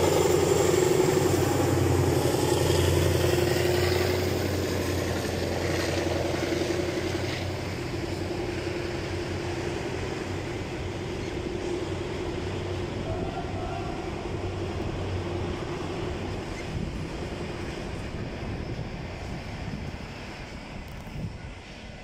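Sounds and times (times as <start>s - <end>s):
freight train wheels on rails: 0.0s - 22.0s.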